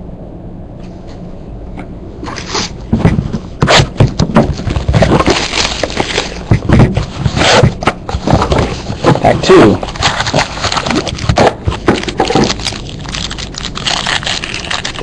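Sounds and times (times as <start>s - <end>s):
trading cards and packaging rustling: 2.2s - 15.0s.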